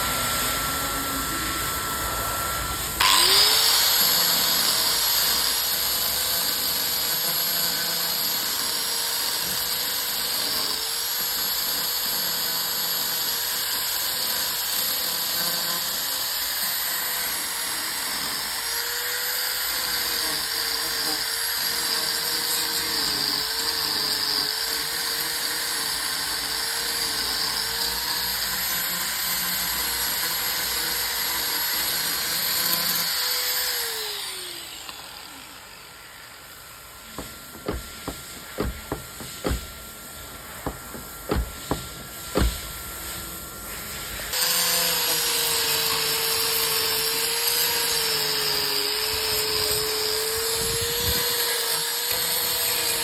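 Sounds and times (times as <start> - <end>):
high-speed rotary tool whining: 0.0 - 53.0.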